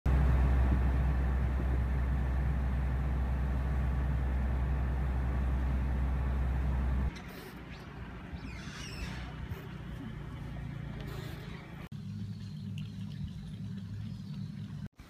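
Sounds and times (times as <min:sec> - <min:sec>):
low rumble of vehicle noise: 0:00.1 - 0:15.0.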